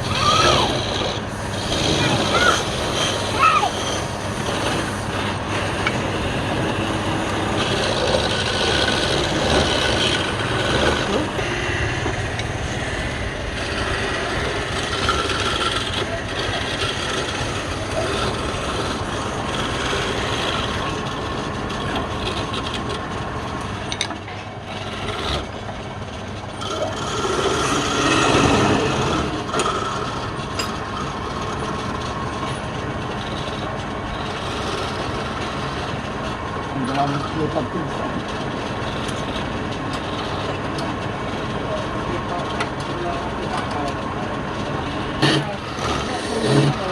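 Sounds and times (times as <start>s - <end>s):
wood lathe cutting wood: 0.0s - 46.9s.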